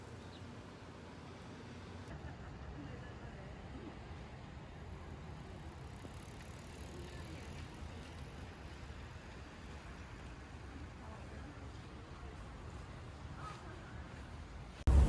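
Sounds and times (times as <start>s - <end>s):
traffic rumble and hiss: 0.0s - 15.0s.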